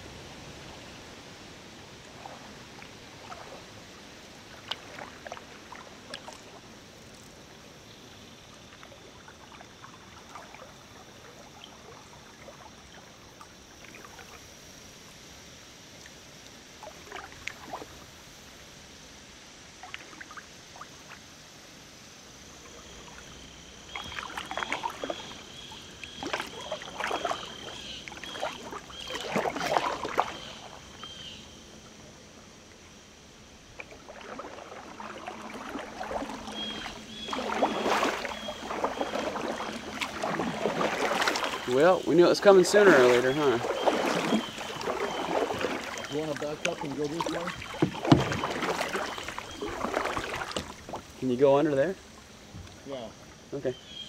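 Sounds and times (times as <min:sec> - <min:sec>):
kayak paddle splashing: 0:00.0 - 0:15.3, 0:15.9 - 0:18.6, 0:19.8 - 0:21.4, 0:22.5 - 0:54.0.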